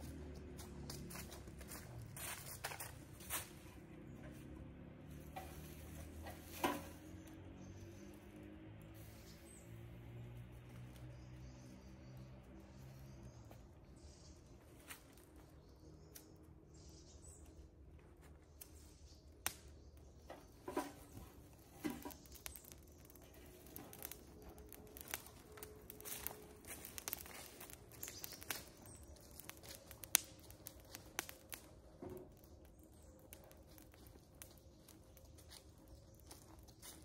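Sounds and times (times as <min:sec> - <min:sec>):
dry leaves and twigs rustling: 0:00.0 - 0:37.0
wood fire crackling: 0:00.0 - 0:37.0.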